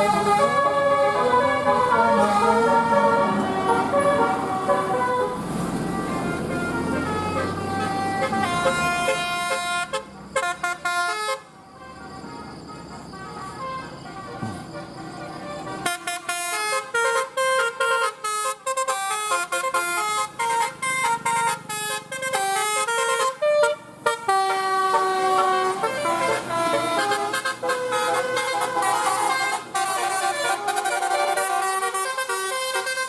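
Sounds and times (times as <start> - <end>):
multi-tone bus horn melody: 0.0 - 33.0.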